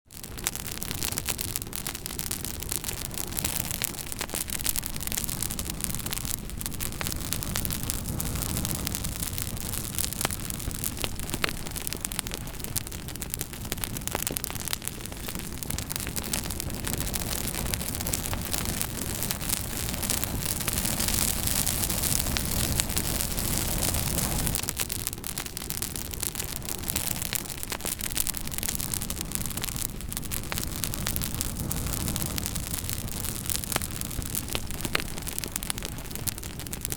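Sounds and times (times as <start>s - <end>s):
campfire crackling and popping: 0.0s - 36.9s
low rush of fire: 0.1s - 36.9s.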